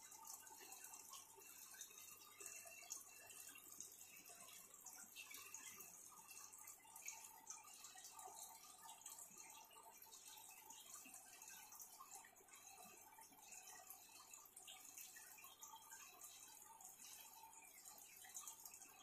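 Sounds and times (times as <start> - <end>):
water trickling and dripping: 0.0 - 19.0.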